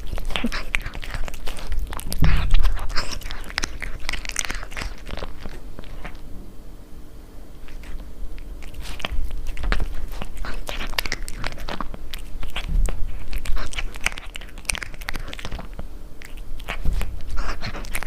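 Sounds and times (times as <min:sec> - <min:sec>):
cat chewing crunchy food: 0:00.0 - 0:06.3, 0:07.5 - 0:18.0.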